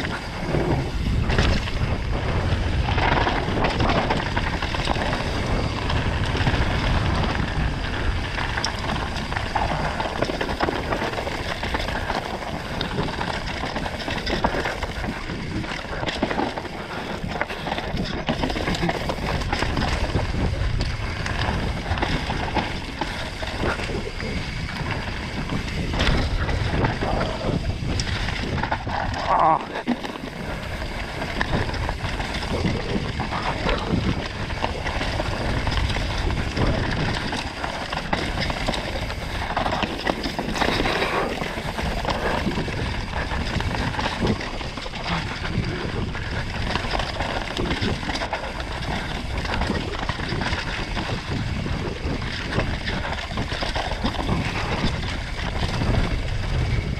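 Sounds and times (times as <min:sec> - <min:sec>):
bike rattling and knocking: 0:00.0 - 0:56.9
tyres over dirt and stones: 0:00.0 - 0:56.9
wind buffeting microphone: 0:00.0 - 0:56.9.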